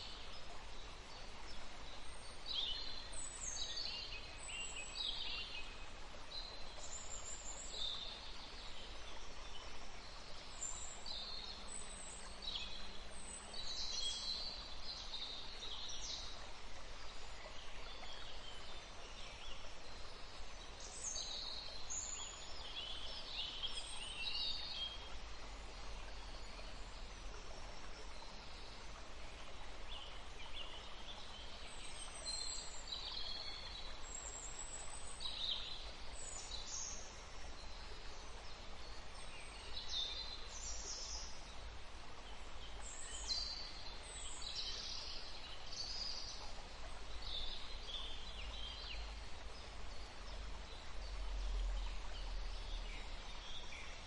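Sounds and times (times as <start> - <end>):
low rumble of background noise: 0.0 - 54.0.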